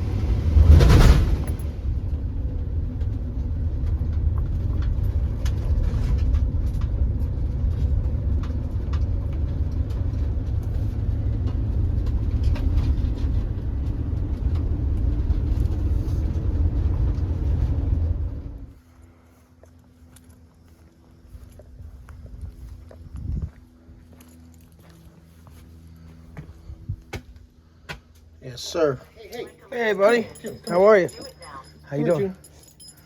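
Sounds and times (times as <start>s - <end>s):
vehicle road and engine noise: 0.0s - 33.0s.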